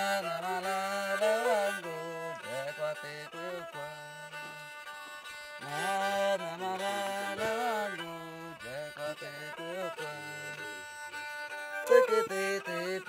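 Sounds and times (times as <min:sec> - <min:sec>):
bowed stick fiddle melody: 0:00.0 - 0:13.0.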